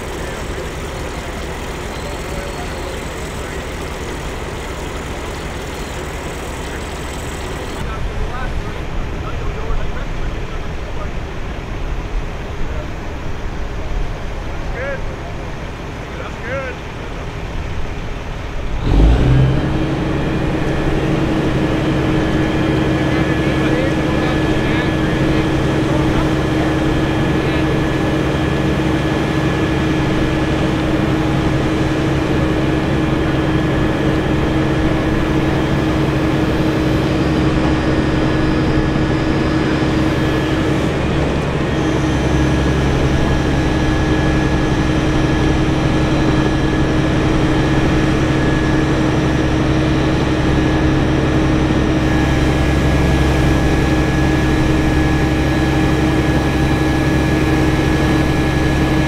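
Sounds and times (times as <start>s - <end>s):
heavy engine rumbling: 0.0s - 59.0s.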